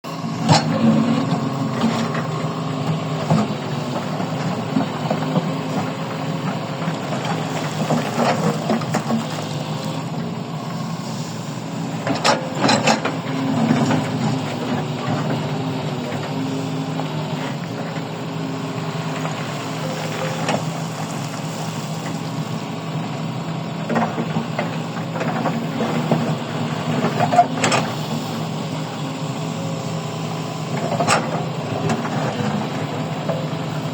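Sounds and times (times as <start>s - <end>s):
heavy machine engine running: 0.0s - 33.9s.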